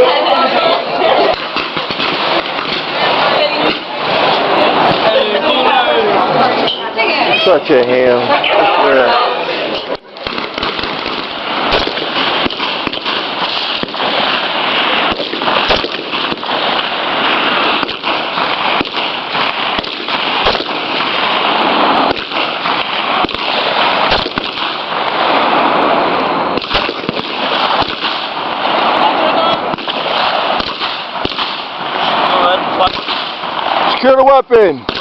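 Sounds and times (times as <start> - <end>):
steady rushing noise: 0.0 - 35.0
rifle shots: 1.1 - 5.2, 10.0 - 34.2.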